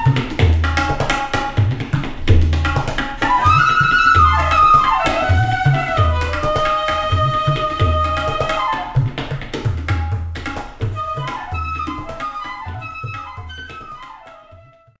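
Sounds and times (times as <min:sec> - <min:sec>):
instrumental music with drum beat: 0:00.0 - 0:14.8.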